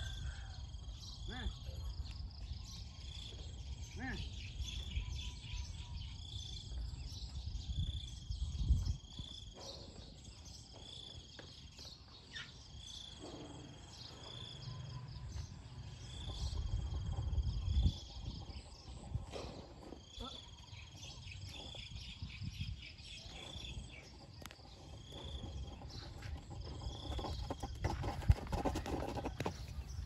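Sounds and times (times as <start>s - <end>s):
insects buzzing and trilling: 0.0s - 30.0s.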